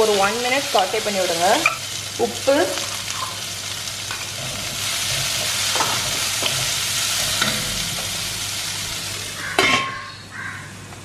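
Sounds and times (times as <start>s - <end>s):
green beans sizzling in oil: 0.0s - 10.0s.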